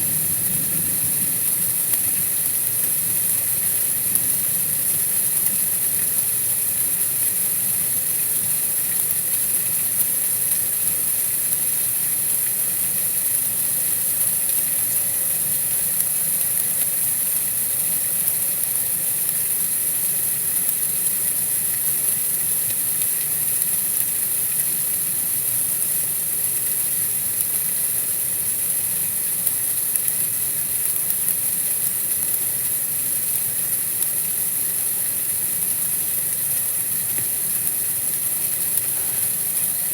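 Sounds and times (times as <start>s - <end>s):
high-pitched hiss: 0.0s - 21.0s, 27.4s - 39.9s.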